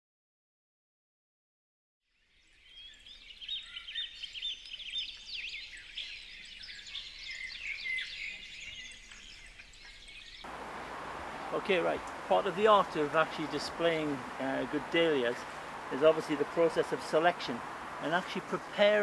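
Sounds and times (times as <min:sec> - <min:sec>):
small birds chirping and trilling: 0:02.1 - 0:19.0.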